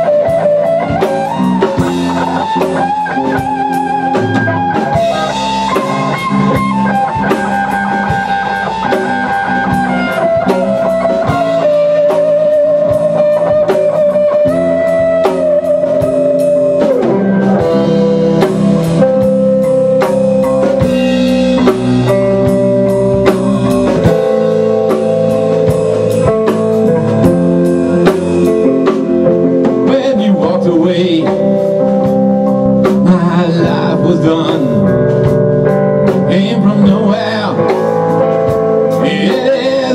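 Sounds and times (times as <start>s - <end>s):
drum kit with cymbal strokes: 0.0s - 39.9s
electric lead guitar with vibrato: 0.0s - 39.9s
rhythm guitar: 0.0s - 39.9s.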